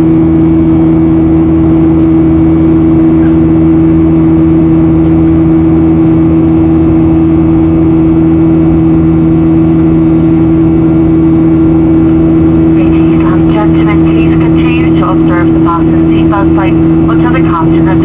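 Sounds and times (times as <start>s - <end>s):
jet engines droning in cabin: 0.0s - 18.0s.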